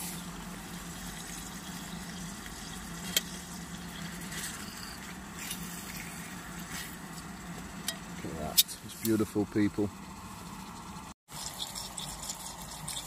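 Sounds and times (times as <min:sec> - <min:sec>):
utensil working meat in pan: 0:00.0 - 0:13.0.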